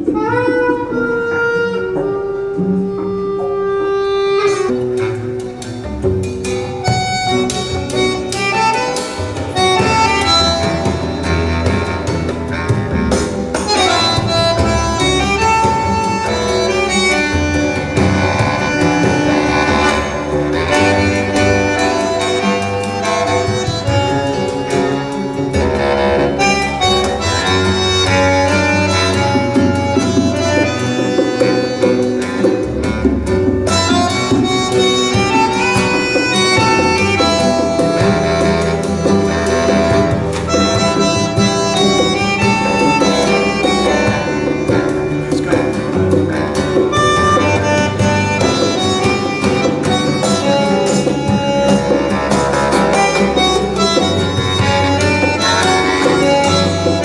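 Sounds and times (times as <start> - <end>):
instrumental music over loudspeakers: 0.0 - 57.0.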